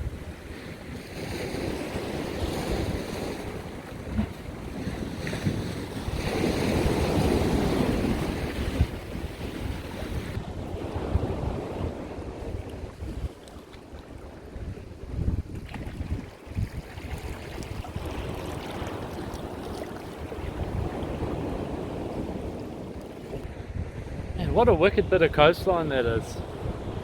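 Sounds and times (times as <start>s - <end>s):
wind buffeting microphone: 0.0s - 27.0s
sea washing against rocks: 0.2s - 23.5s.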